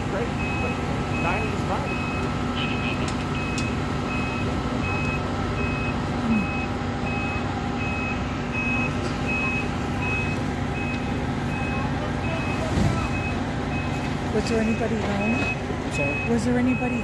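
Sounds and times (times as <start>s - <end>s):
diesel engine idling: 0.0s - 17.0s
electronic warning beeps: 0.2s - 17.0s.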